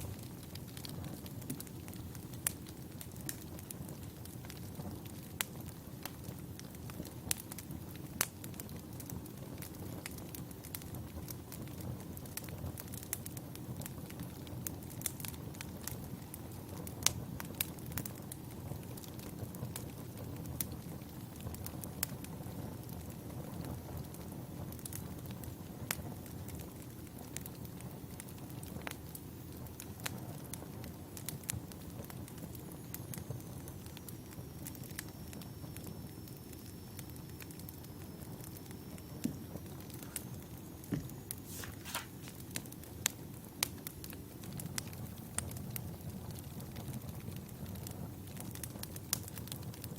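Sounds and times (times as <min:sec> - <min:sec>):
campfire burning: 0:00.0 - 0:49.9
firewood crackling and popping: 0:00.0 - 0:49.9.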